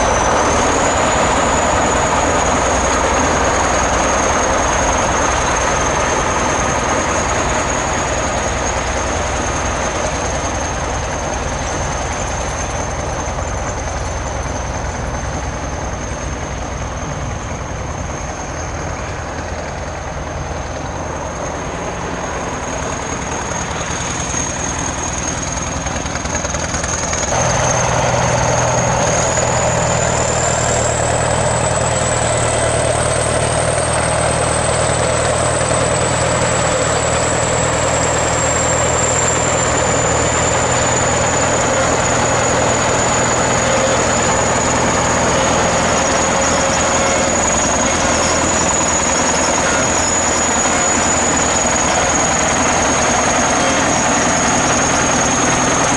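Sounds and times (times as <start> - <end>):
bulldozer diesel engine running: 0.0 - 55.9
high whine: 0.0 - 55.9.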